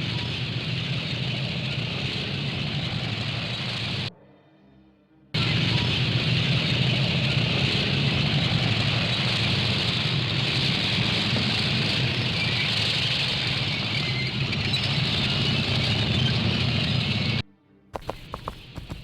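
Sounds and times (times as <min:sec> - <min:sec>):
engine humming: 0:00.0 - 0:04.1, 0:05.4 - 0:17.4, 0:18.0 - 0:19.0.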